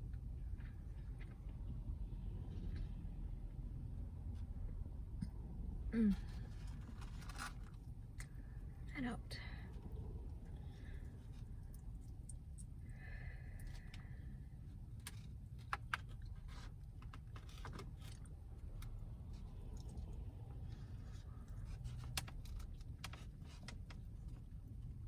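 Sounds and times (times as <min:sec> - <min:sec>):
low car rumble: 0:00.0 - 0:25.0.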